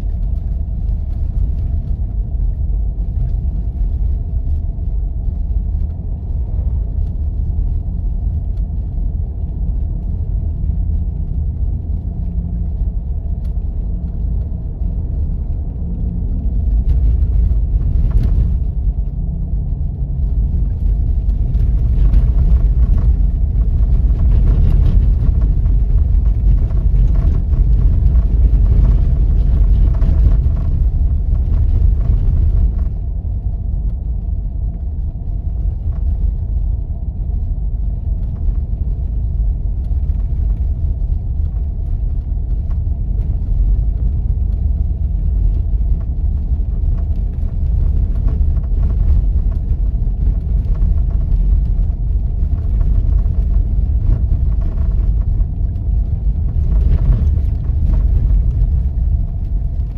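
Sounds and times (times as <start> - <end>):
rough crackling noise: 0.0 - 59.9
vehicle engine and tyre rumble: 0.0 - 59.9.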